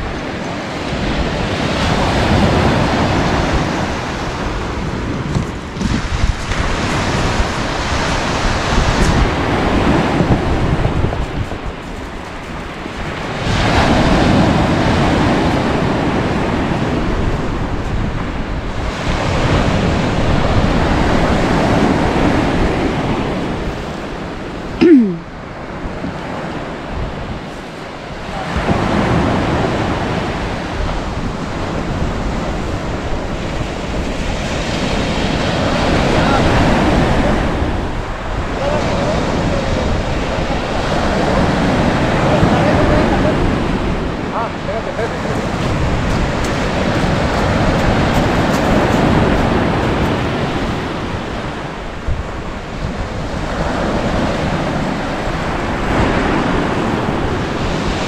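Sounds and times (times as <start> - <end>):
surf washing up pebble beach: 0.0 - 24.7, 25.5 - 58.0
wind buffeting microphone: 0.0 - 58.0.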